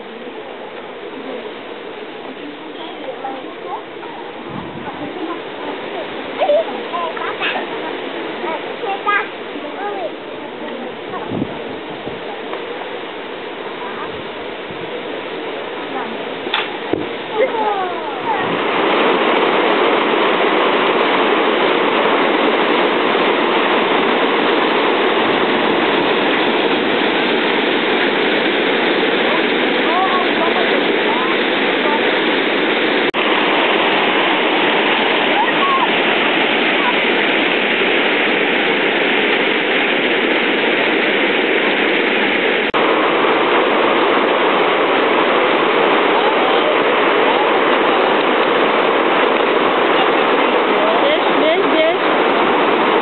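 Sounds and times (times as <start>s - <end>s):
water rushing over weir: 0.0s - 53.0s.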